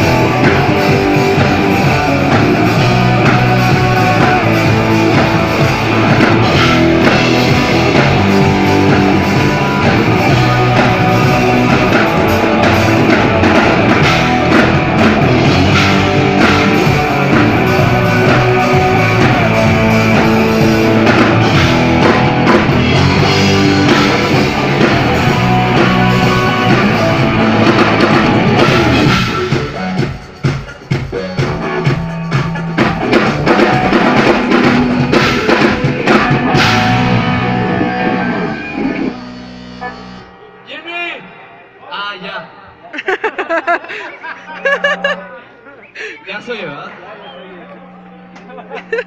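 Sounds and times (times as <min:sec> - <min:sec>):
live rock band playing: 0:00.0 - 0:41.8, 0:42.4 - 0:49.0.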